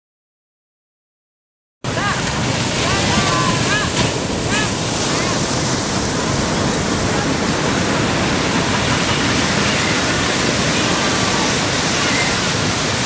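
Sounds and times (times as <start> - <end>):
ocean surf rushing: 1.8 - 13.0.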